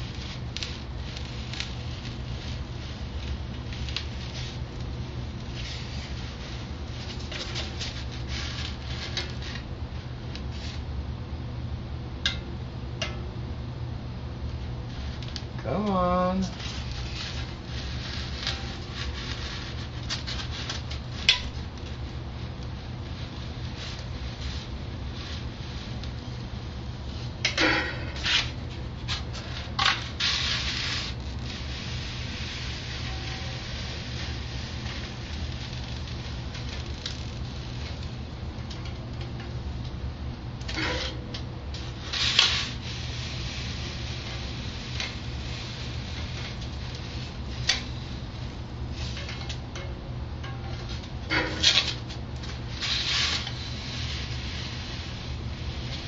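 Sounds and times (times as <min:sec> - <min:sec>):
foam scratchy crackling: 0:00.0 - 0:11.0, 0:14.4 - 0:49.9, 0:50.7 - 0:56.0
steady low hum: 0:00.0 - 0:56.0.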